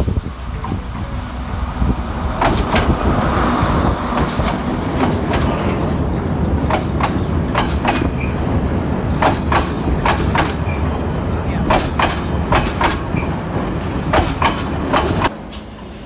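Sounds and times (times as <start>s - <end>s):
wheels clacking over rail joints: 0.0s - 15.8s
train rumbling: 0.0s - 16.0s.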